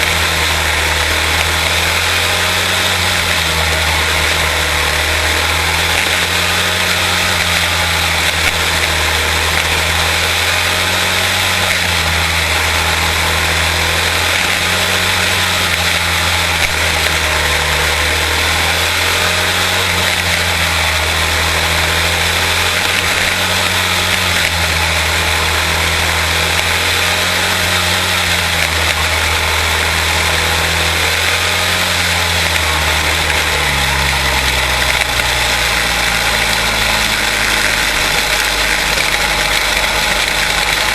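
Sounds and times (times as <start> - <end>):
small race car engines droning: 0.0 - 40.9.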